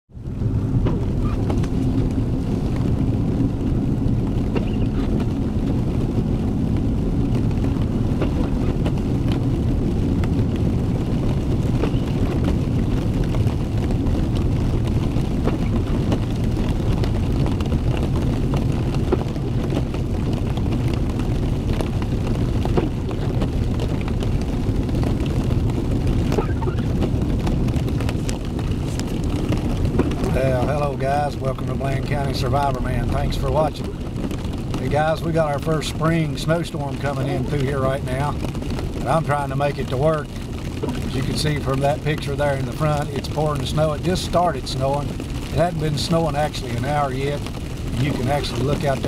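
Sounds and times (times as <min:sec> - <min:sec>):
pickup truck engine rumble: 0:00.1 - 0:49.0.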